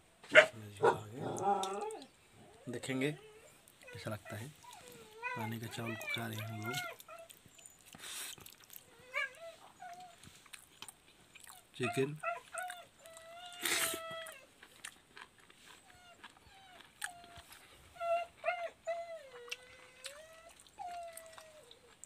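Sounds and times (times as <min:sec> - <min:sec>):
dog whining: 0:00.8 - 0:10.6, 0:11.5 - 0:14.6, 0:15.7 - 0:22.0.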